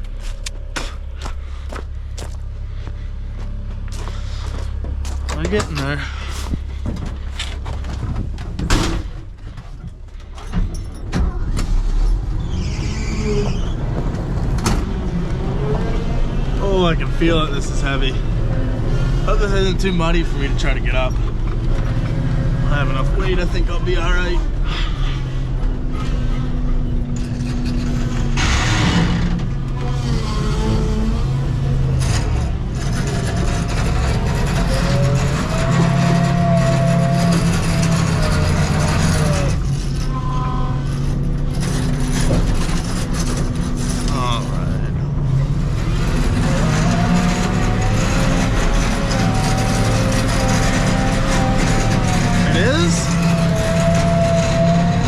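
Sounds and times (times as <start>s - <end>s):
truck engine under load: 0.0s - 55.0s.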